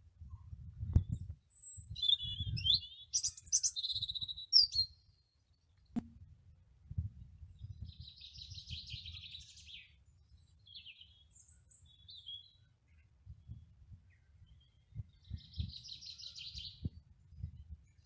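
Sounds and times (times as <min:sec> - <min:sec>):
songbird singing: 0:00.3 - 0:06.0, 0:07.2 - 0:18.0.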